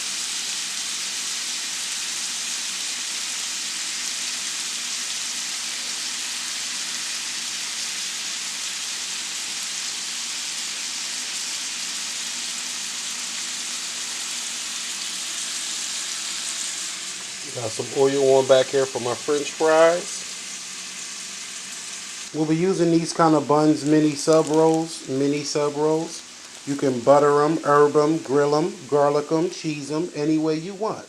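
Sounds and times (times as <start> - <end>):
burger patties sizzling in pan: 0.0 - 31.0.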